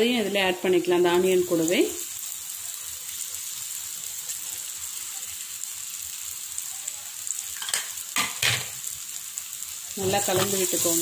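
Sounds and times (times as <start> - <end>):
onions sizzling in a pan: 0.0 - 11.0.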